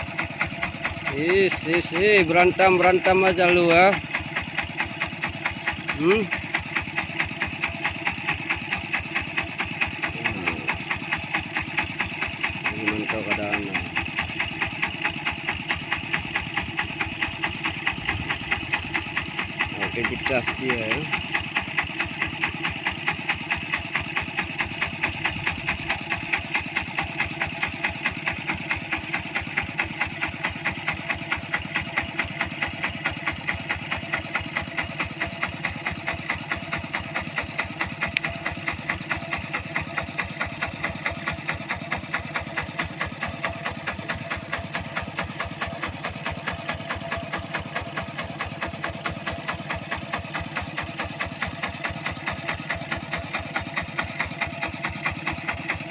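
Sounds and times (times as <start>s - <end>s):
tractor engine chugging: 0.0s - 55.9s.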